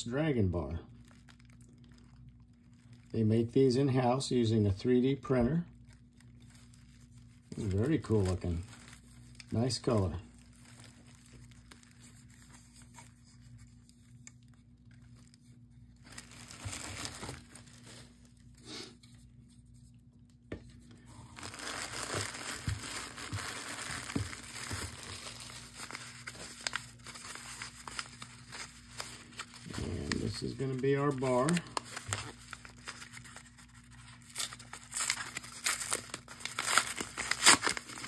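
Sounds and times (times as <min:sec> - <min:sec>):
bubble wrap and paper crinkling: 0:00.2 - 0:19.9, 0:20.6 - 0:38.0
faint handling sounds: 0:00.6 - 0:38.0.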